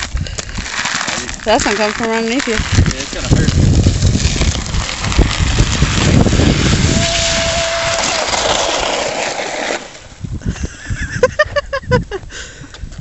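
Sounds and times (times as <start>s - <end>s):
wind rumble on microphone: 0.0s - 8.9s, 10.0s - 13.0s
sliding down icy snow: 0.0s - 12.1s.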